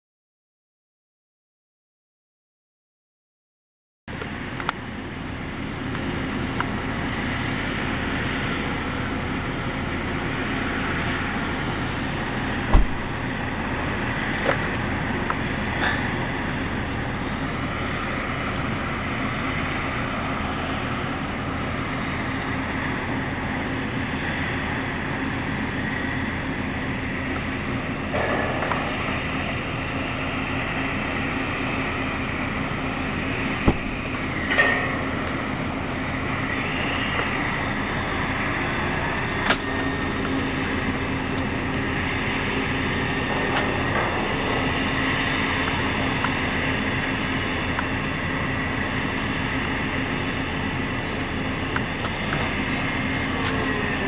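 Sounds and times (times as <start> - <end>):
drilling rig drone: 4.1 - 54.0.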